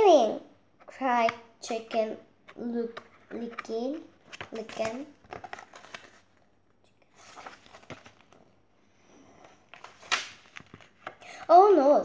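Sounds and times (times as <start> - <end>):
paper rustling: 0.8 - 11.4.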